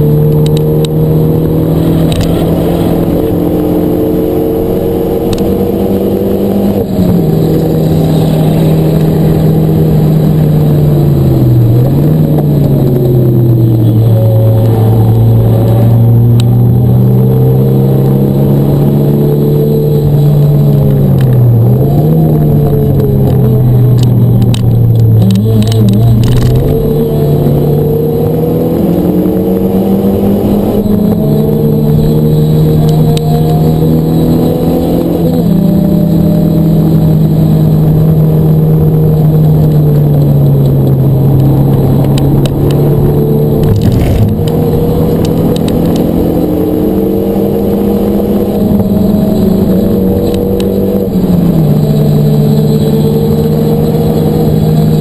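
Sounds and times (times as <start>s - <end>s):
car engine accelerating: 0.0s - 55.0s
tyre and road noise: 0.0s - 55.0s.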